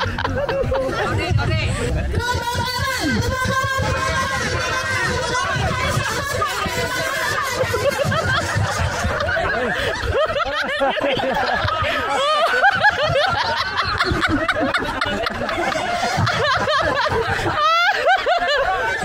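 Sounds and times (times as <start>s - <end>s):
group of people laughing: 0.0s - 19.0s.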